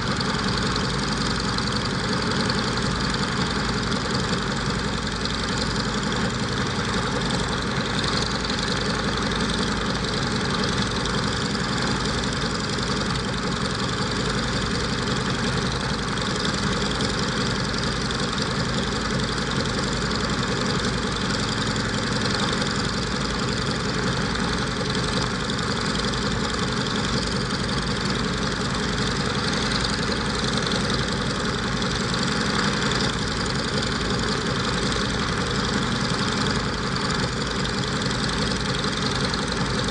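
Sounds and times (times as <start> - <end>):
radial piston engines droning: 0.0 - 39.9.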